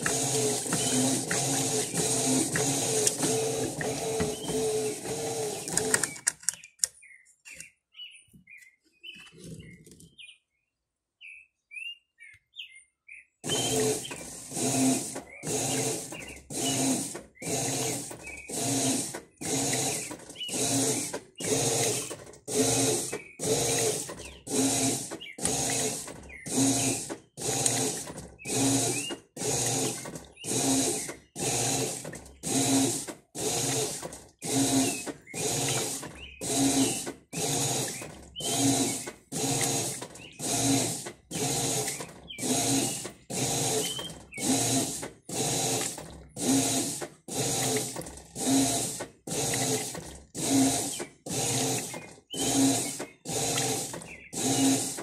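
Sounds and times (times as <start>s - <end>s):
washing machine motor whirring: 0.0s - 6.3s, 13.4s - 55.0s.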